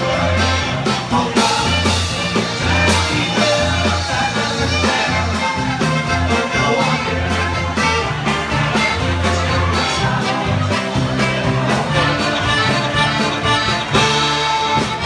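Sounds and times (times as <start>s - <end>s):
polka band playing: 0.0s - 15.0s.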